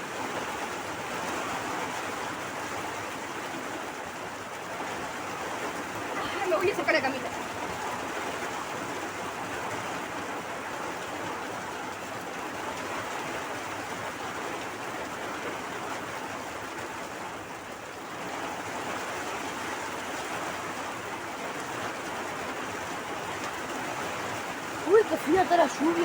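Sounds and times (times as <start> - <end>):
rain pouring: 0.0 - 26.0.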